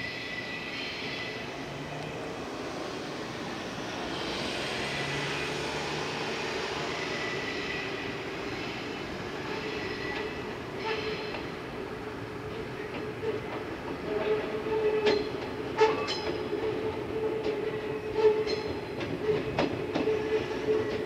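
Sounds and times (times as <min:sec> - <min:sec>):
electric train running drone: 0:00.0 - 0:21.0.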